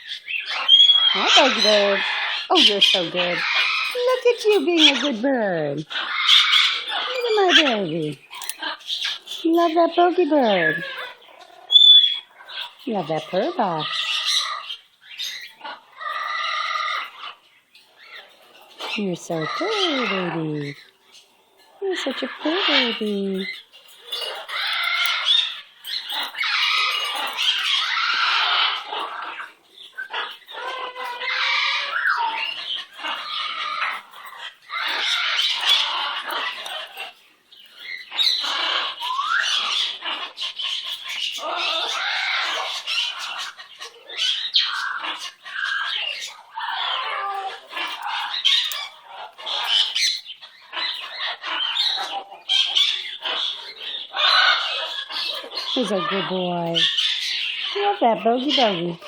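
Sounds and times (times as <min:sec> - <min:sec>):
pet bird chattering and squawking: 0:00.0 - 0:59.0.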